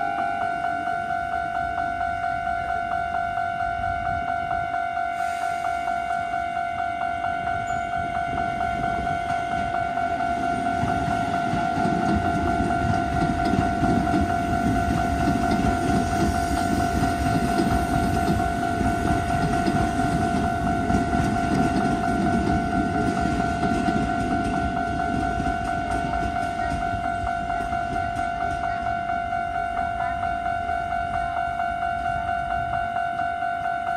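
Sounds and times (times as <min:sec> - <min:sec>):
level-crossing alarm ringing: 0:00.0 - 0:33.9
train rumble on rails: 0:00.0 - 0:33.9.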